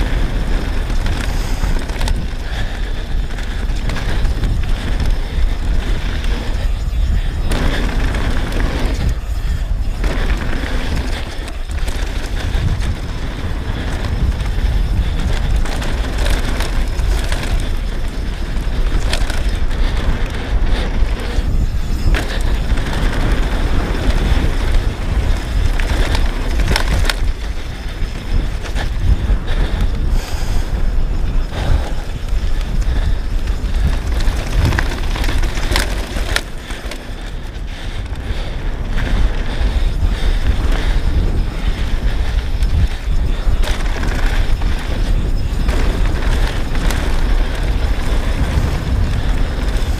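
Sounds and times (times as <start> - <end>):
bike drivetrain and frame rattling: 0.0 - 49.9
tyres on dirt trail: 0.0 - 49.9
wind buffeting camera: 0.0 - 49.9.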